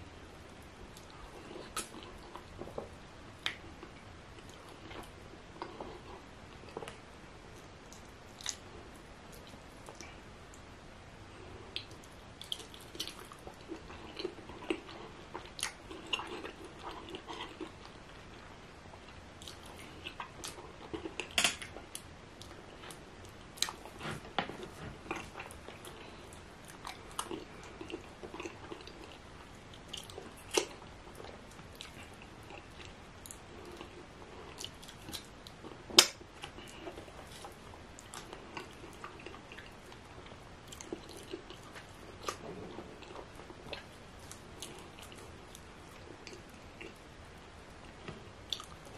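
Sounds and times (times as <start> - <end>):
person chewing wetly: 0.9 - 7.0, 11.4 - 47.2, 47.8 - 48.9.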